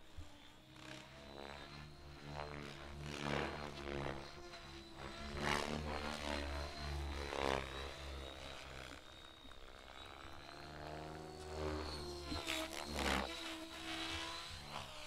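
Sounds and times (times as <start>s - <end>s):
model plane engine surging: 0.0s - 15.0s.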